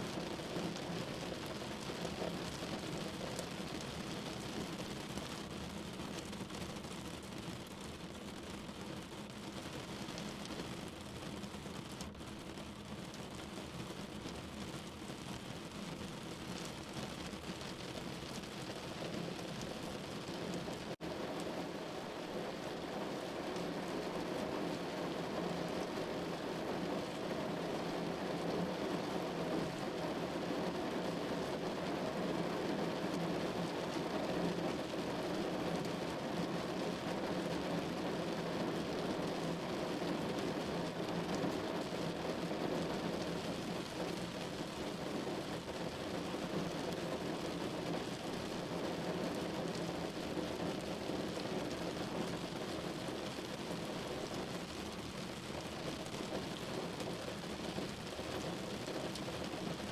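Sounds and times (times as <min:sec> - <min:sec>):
rain on a window pane: 0:00.0 - 0:59.9.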